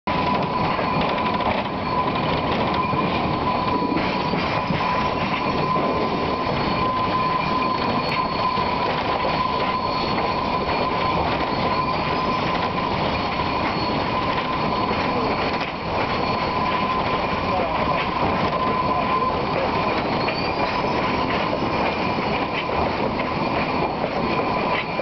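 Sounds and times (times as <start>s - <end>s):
steady high tone: 0.1s - 25.0s
steam locomotive running gear: 0.1s - 25.0s.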